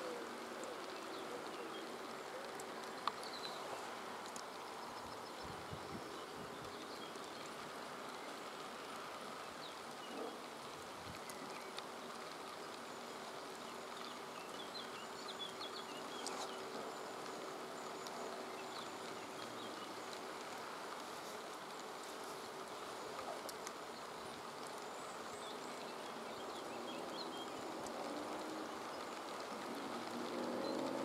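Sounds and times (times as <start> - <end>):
even hiss: 0.0 - 31.0
insects buzzing: 0.0 - 31.0.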